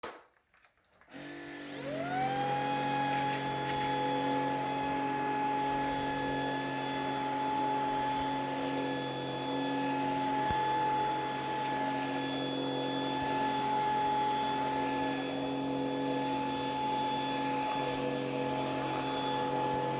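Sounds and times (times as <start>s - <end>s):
vacuum cleaner motor whining: 1.1s - 19.9s.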